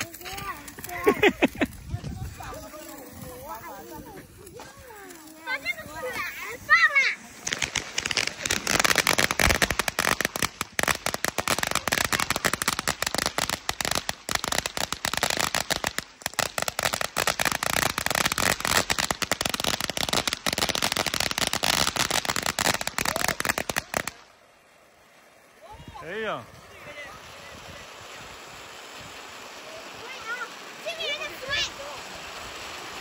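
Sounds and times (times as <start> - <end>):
firecrackers crackling: 0.0 - 33.0.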